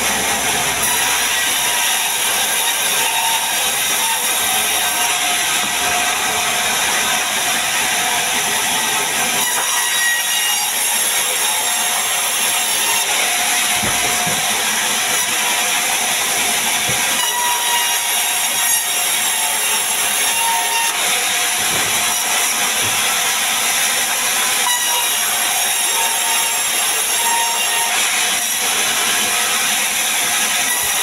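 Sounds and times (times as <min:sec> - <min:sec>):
band saw cutting through log: 0:00.0 - 0:31.0.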